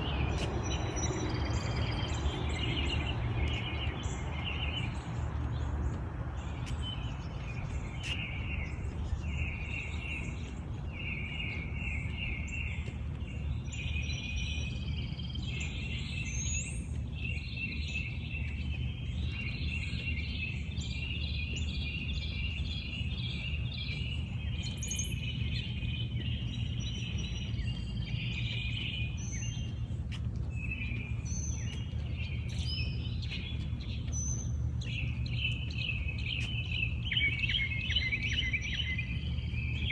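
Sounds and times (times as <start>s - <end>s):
songbirds chirping: 0.0s - 39.9s
steady low rumble: 0.0s - 39.9s.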